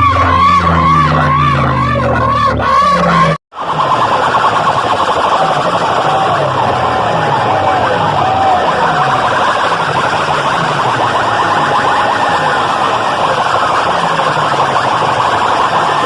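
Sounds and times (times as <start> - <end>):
falling bass sweeps: 0.0 - 16.0
siren-like wail: 0.0 - 16.0.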